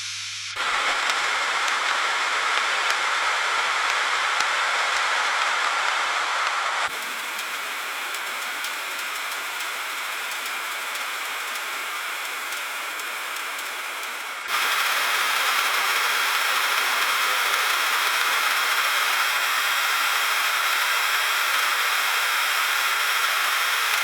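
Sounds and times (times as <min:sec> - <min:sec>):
freezing rain hissing on a car: 0:00.6 - 0:24.0.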